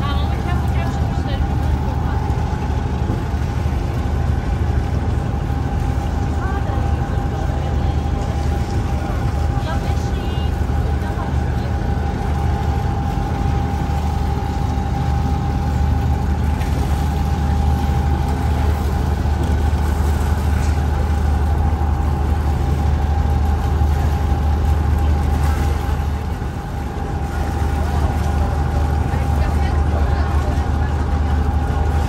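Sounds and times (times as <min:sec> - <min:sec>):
boat engines droning: 0:00.0 - 0:32.0.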